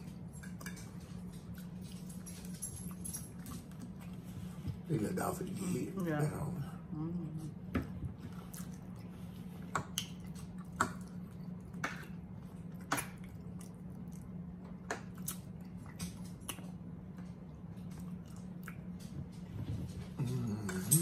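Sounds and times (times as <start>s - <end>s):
people chewing food: 0.0s - 21.0s
steady low hum: 0.0s - 21.0s.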